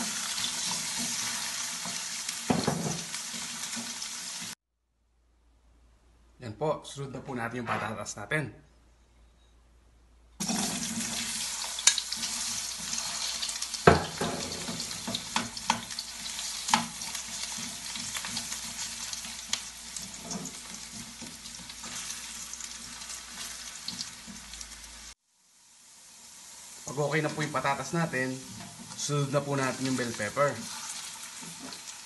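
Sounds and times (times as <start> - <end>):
potatoes sizzling in oil: 0.0 - 4.6, 10.4 - 32.0.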